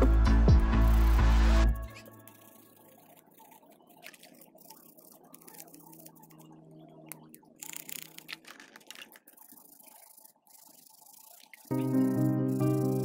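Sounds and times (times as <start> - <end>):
toothbrush bristles scratching: 0.8 - 6.5, 7.1 - 13.0.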